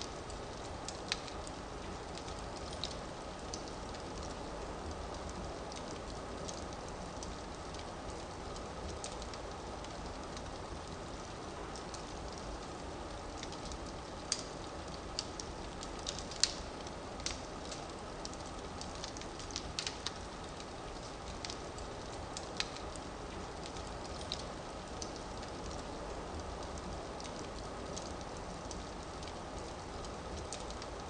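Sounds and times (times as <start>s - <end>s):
firewood crackling and popping: 0.0s - 31.0s.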